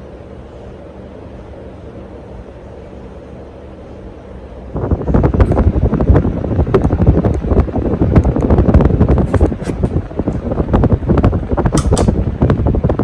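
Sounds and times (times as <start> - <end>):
ceiling fan airflow rumble: 0.0 - 13.0.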